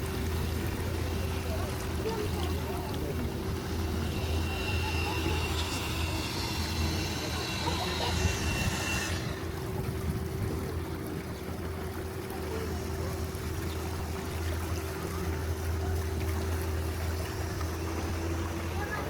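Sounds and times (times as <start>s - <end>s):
boat engine drone: 0.0s - 19.0s
steady hum: 0.0s - 19.0s.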